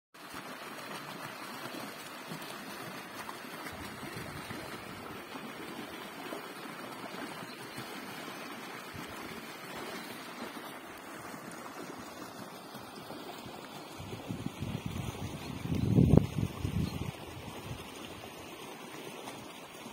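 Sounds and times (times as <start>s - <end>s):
creek rushing over stones: 0.2s - 19.9s.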